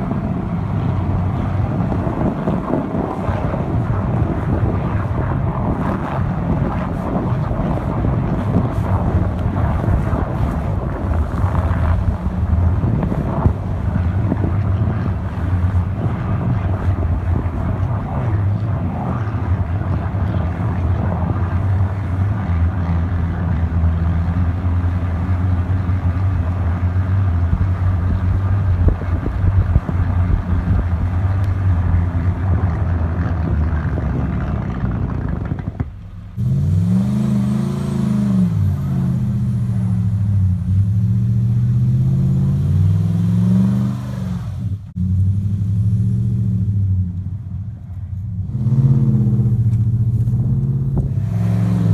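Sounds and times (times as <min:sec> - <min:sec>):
engine revving: 0:00.0 - 0:47.5, 0:48.3 - 0:51.9
pickup engine and exhaust running: 0:00.0 - 0:51.9.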